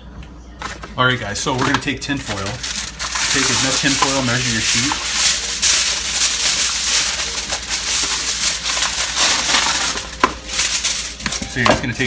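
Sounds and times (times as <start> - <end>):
aluminium foil crinkling: 0.6 - 12.0.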